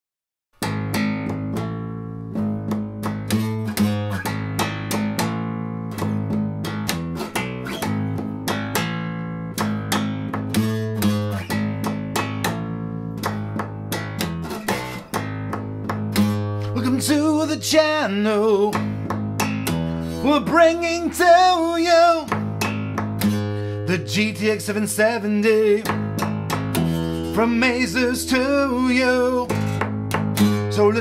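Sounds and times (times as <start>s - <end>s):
plucked acoustic bass guitar: 0.6s - 31.0s.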